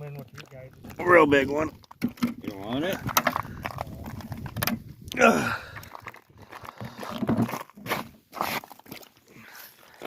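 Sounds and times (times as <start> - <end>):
crunching noises: 0.0 - 10.0.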